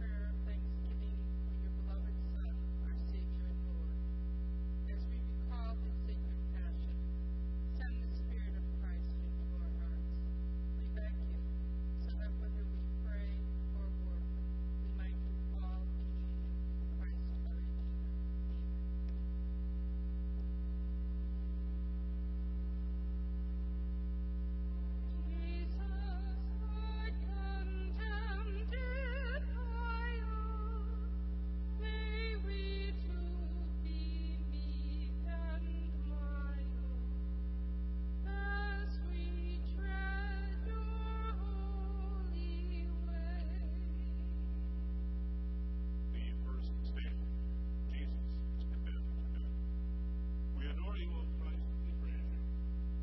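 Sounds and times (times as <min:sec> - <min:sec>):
electrical mains hum: 0:00.0 - 0:53.0
faint indistinct sounds: 0:00.0 - 0:53.0.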